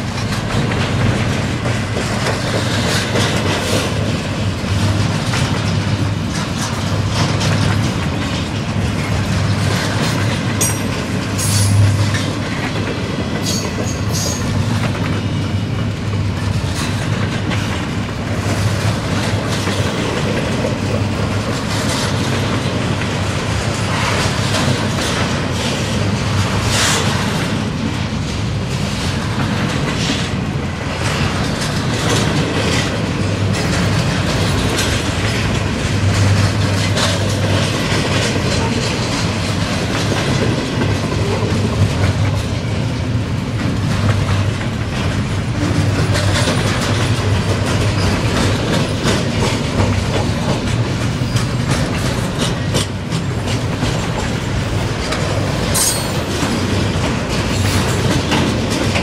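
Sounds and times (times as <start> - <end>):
steel wheels rumbling on rail: 0.0 - 59.0
wheels clicking over rail joints: 0.0 - 59.0.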